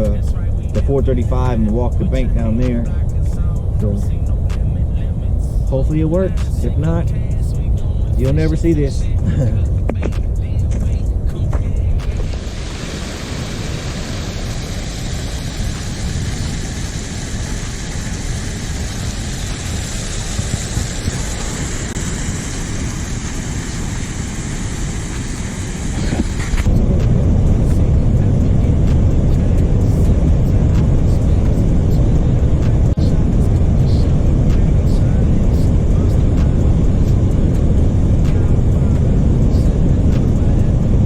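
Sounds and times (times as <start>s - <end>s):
truck interior rumble: 0.0s - 41.0s
tyres and traffic rushing: 0.0s - 41.0s.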